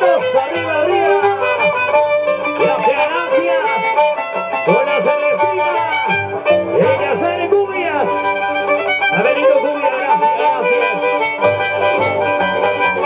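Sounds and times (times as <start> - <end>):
violins playing lively folk melody: 0.0 - 13.0.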